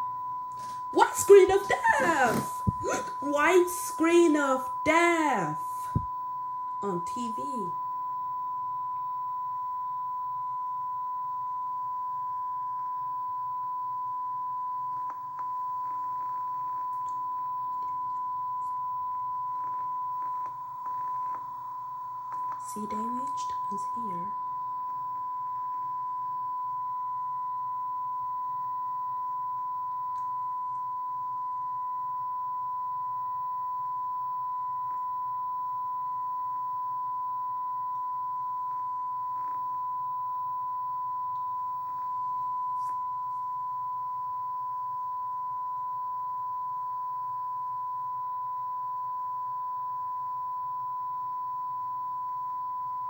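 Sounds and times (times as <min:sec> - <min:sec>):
faint low hum: 0:00.0 - 0:53.0
steady single-pitch beep tone: 0:05.6 - 0:53.0.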